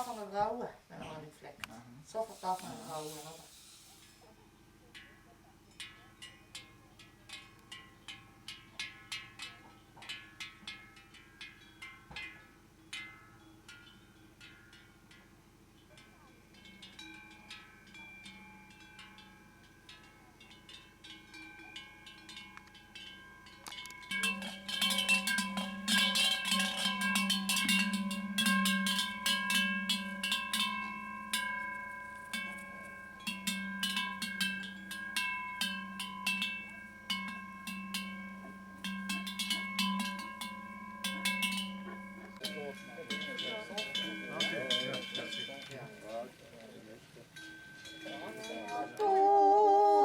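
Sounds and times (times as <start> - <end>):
cowbells ringing: 4.4 - 50.0.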